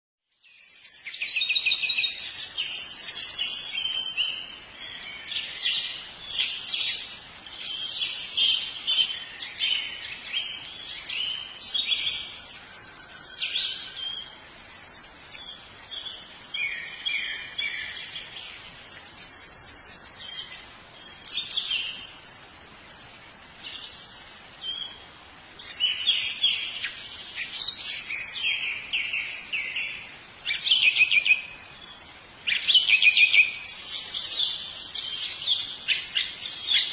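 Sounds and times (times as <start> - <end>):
songbird chirps and trills: 0.2 - 36.9.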